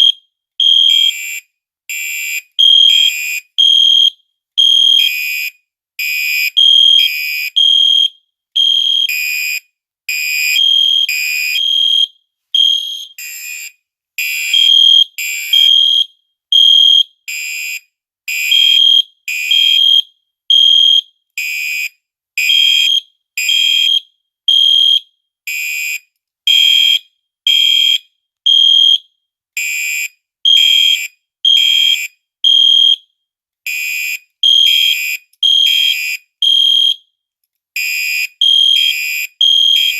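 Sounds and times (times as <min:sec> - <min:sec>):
fire alarm beeping: 0:00.0 - 0:01.4, 0:02.0 - 0:05.5, 0:06.1 - 0:21.0, 0:22.4 - 0:25.0, 0:26.5 - 0:29.0, 0:30.5 - 0:33.1, 0:34.4 - 0:37.0, 0:37.8 - 0:39.9.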